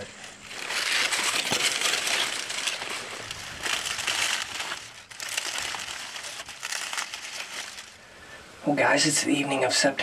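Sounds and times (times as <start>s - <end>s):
dry corn leaves rustling: 0.0s - 10.0s.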